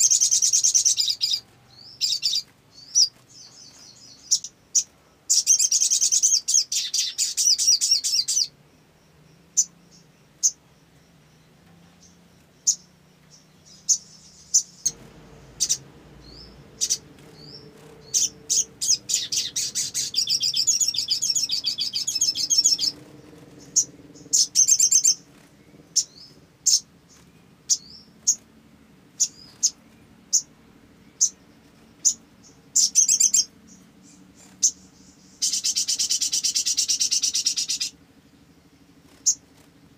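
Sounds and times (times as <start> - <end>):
bird chattering trills: 0.0 - 11.4, 12.0 - 28.5, 29.2 - 39.8.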